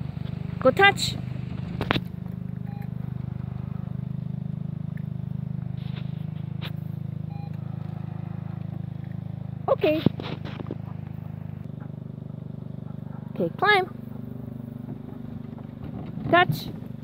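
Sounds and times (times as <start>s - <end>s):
low fluttering engine-like hum: 0.0s - 17.0s.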